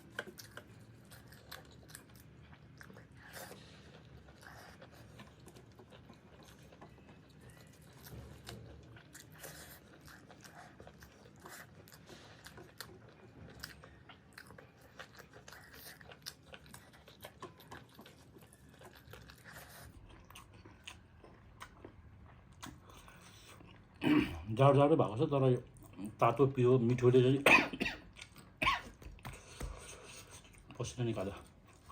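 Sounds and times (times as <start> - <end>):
person chewing crunchy food: 0.0 - 24.5, 28.0 - 30.8.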